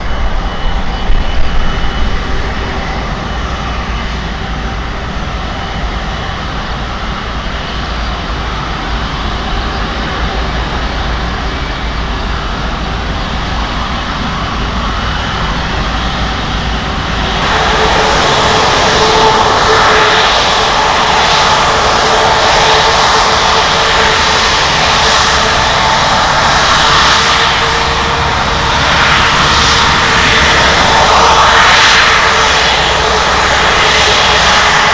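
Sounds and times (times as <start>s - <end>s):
jet engine whine: 0.0s - 34.9s
jet engines roaring: 0.0s - 34.9s
wind rumble on microphone: 0.0s - 34.9s.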